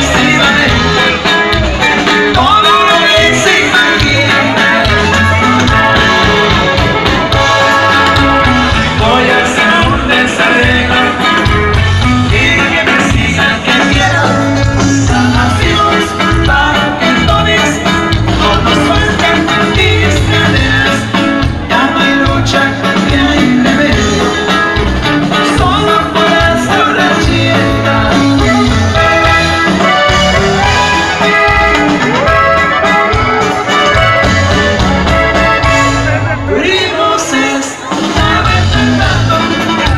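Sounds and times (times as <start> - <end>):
live band music with singing: 0.0 - 39.9
rhythmic bass: 0.0 - 39.9.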